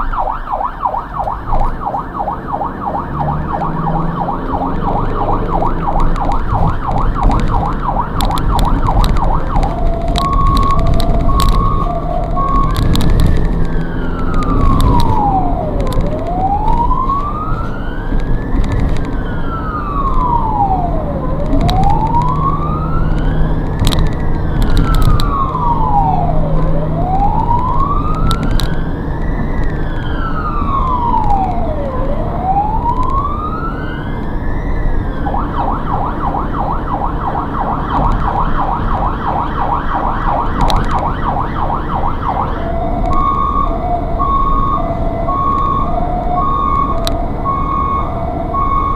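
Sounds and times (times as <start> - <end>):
ambulance siren: 0.0 - 48.9
engine and road noise: 0.0 - 48.9.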